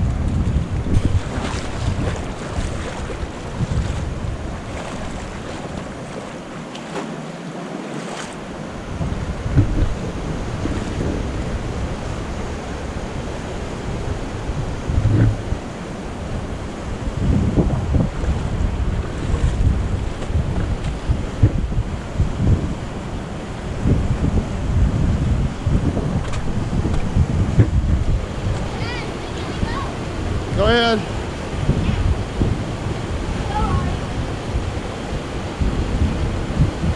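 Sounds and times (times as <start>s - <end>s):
wind rumbling on microphone: 0.0s - 7.4s, 8.0s - 36.9s
flowing creek water: 0.0s - 36.9s.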